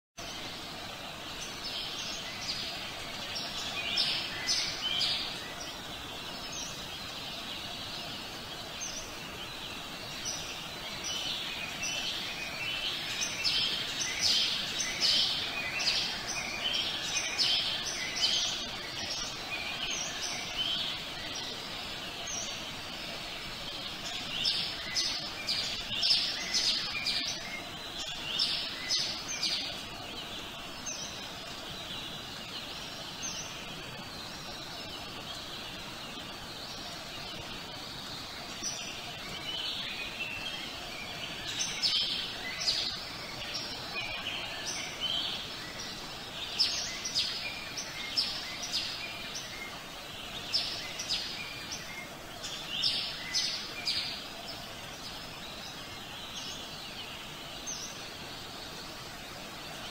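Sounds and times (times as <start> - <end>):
outdoor ambience hiss: 0.2 - 59.9
songbirds chirping: 0.2 - 59.9.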